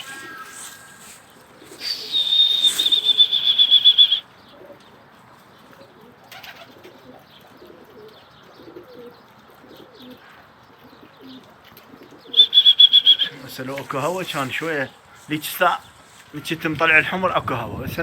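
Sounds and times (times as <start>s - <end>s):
pigeons cooing: 0.0s - 15.3s.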